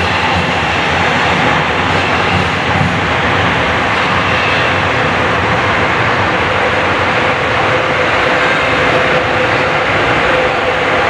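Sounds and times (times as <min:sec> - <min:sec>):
train rail rumble: 0:00.0 - 0:11.0.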